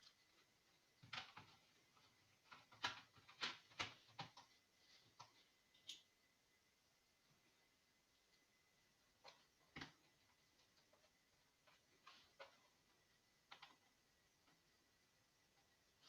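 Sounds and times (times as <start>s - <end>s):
light irregular clicks and taps: 0.0s - 6.2s, 9.1s - 16.0s.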